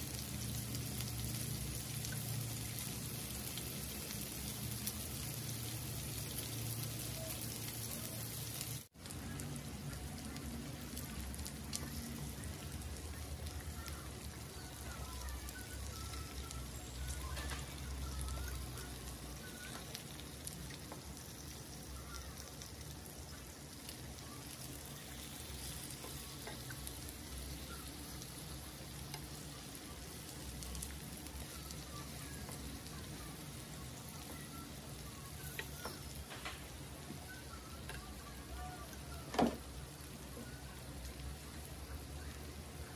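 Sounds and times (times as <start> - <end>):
meat sizzling on a grill pan: 0.0 - 42.9.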